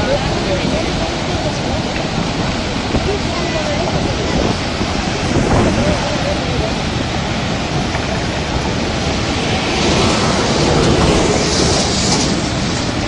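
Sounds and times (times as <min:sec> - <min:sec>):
loud rush of river water: 0:00.0 - 0:13.0.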